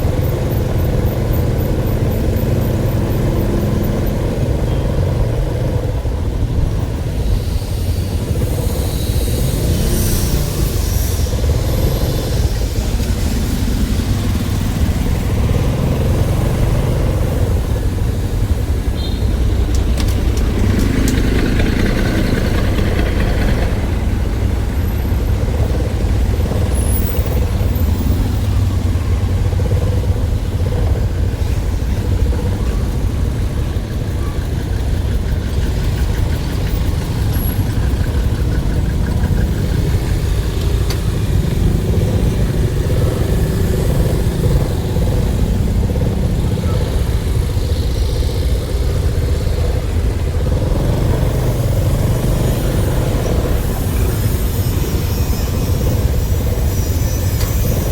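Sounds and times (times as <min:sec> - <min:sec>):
motor vehicle rumbling: 0:00.0 - 0:57.9.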